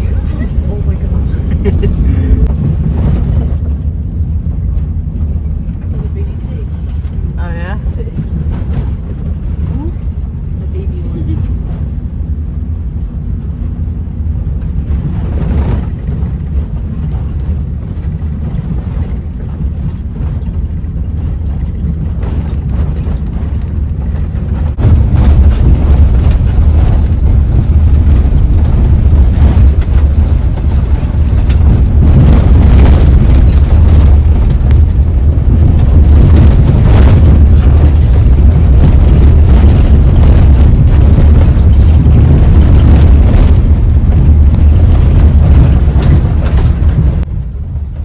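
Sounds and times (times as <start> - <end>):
car knocks and jolts: 0.0 - 10.4, 13.3 - 48.0
car engine and road rumble: 0.0 - 48.0.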